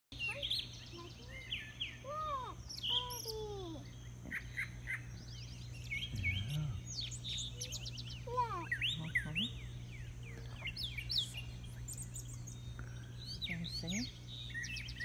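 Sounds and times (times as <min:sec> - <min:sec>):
songbirds singing: 0:00.1 - 0:15.0
steady low hum: 0:00.1 - 0:15.0.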